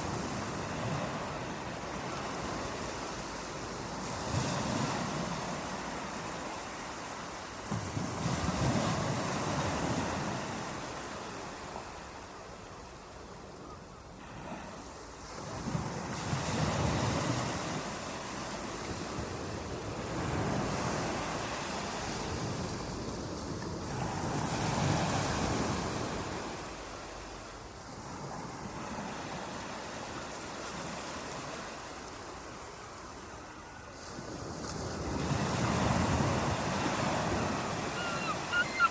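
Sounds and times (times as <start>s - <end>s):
waves washing in and out: 0.0s - 38.9s.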